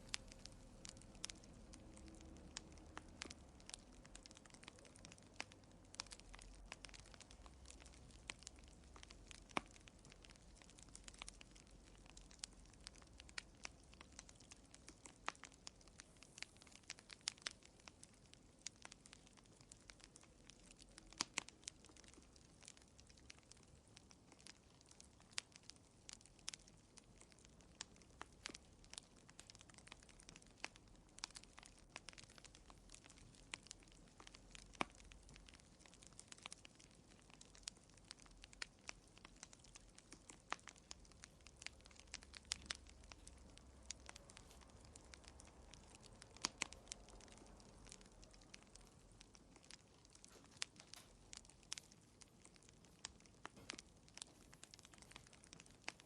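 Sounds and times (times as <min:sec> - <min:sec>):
wood fire crackling faintly: 0:00.0 - 0:56.0.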